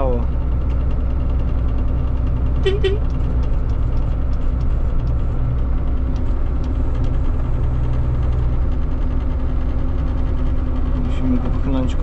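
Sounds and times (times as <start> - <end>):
diesel engine running in cab: 0.0 - 12.0.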